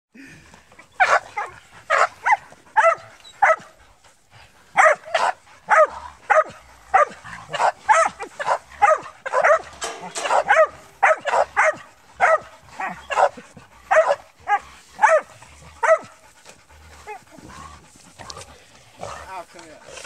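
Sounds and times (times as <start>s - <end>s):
hunting dogs barking: 0.9s - 20.0s.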